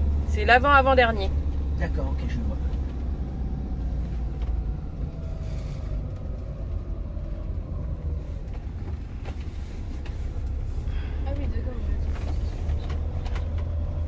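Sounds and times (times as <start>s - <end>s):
engine rumble: 0.0s - 14.0s
road noise: 0.0s - 14.0s.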